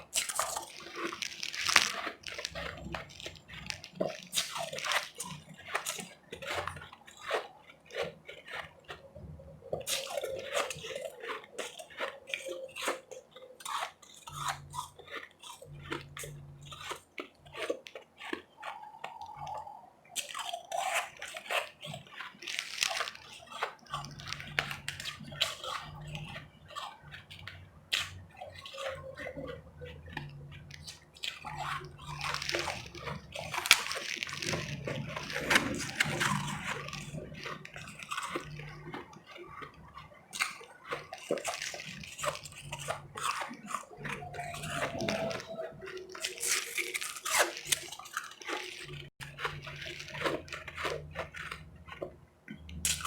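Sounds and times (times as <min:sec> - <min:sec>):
crunching ice chips: 0:00.0 - 0:53.0
wet mouth sounds: 0:00.0 - 0:53.0.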